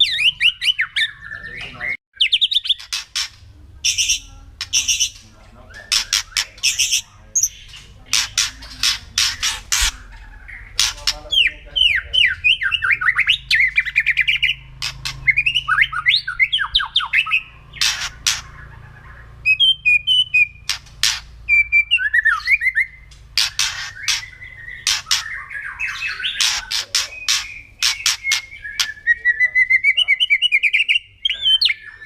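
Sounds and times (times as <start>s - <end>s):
bird whistled song: 0.0s - 3.0s, 3.8s - 32.0s
bird harsh rasping calls: 0.0s - 32.0s.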